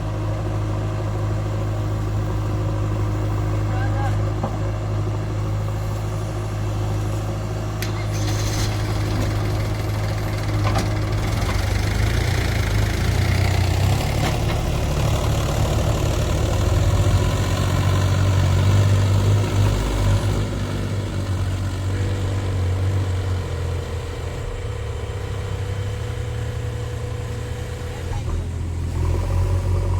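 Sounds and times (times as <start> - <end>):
diesel machinery engine running: 0.0 - 29.9.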